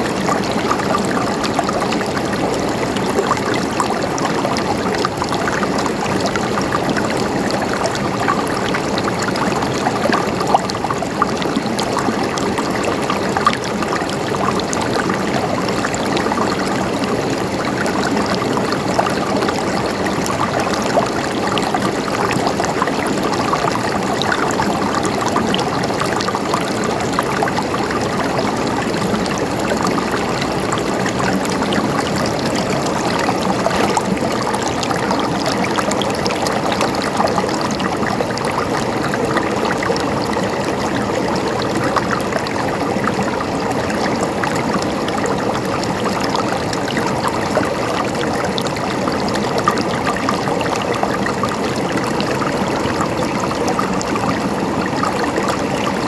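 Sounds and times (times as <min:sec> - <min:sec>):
small water splashes: 0:00.0 - 0:56.0
stream flowing and gurgling: 0:00.0 - 0:56.0.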